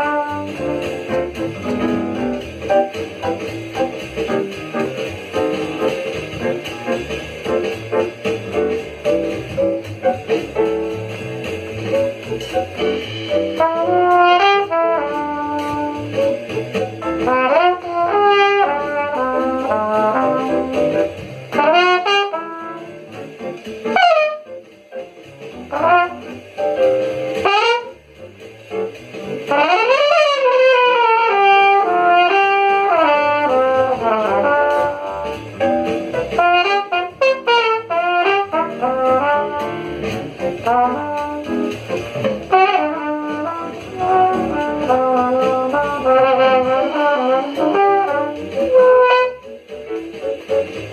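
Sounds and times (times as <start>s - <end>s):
brass jazz music: 0.0s - 50.9s.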